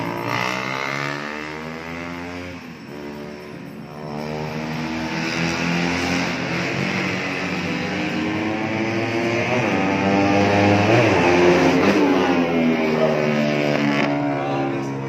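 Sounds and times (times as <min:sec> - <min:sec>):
distant motorcycle engines: 0:00.0 - 0:15.0
racing motorcycle passing: 0:00.0 - 0:15.0.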